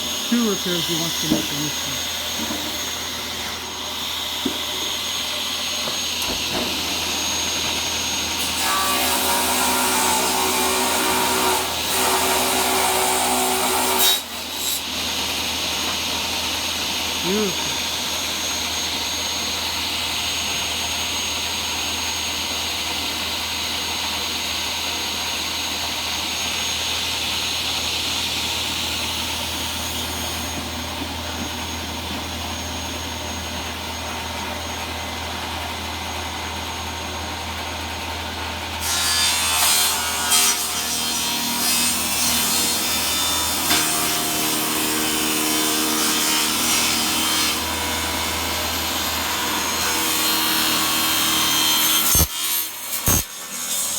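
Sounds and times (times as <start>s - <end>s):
table saw cutting wood: 0.0s - 53.9s.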